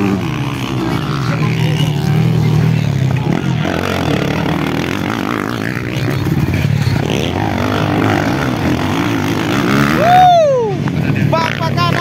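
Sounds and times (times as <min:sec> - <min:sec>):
dirt bikes revving: 0:00.0 - 0:12.0.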